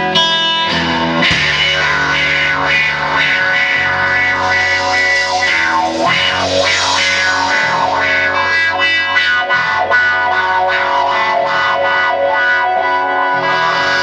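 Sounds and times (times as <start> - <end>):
bass guitar: 0.0 - 14.0
distorted electric guitar: 0.0 - 14.0
drums: 0.0 - 14.0.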